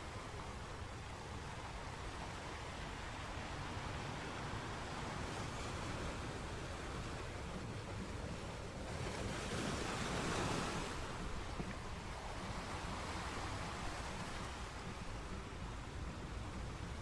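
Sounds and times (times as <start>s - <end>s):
sea waves breaking: 0.0s - 17.0s.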